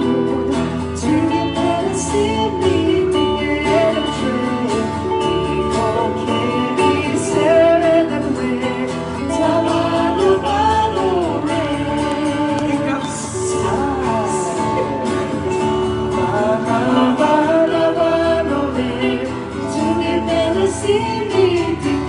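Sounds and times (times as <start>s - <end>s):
person singing: 0.0s - 22.0s
strummed guitar: 0.0s - 22.0s.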